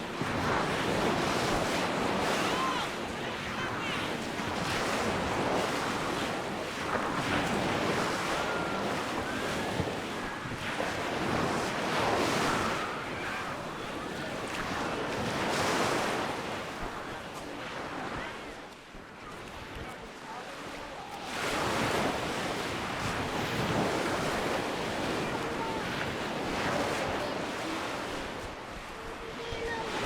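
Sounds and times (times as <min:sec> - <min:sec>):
wind buffeting microphone: 0:00.0 - 0:20.2, 0:21.2 - 0:30.0
sea waves breaking on shore: 0:00.0 - 0:30.0.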